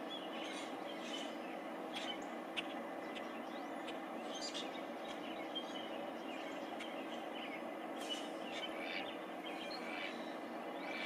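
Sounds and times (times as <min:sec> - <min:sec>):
small birds chirping faintly: 0:00.0 - 0:11.0
steady low hum: 0:00.0 - 0:11.0.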